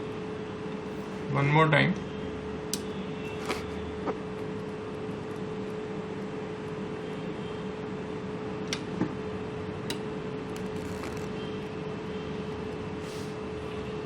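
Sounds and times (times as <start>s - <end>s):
mechanical room hum: 0.0s - 14.0s.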